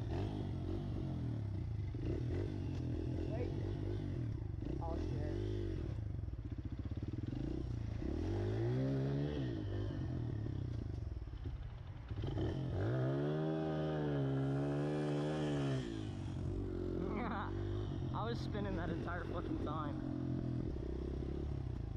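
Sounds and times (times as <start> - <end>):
pit bike engine revving: 0.0 - 10.3, 12.1 - 21.9.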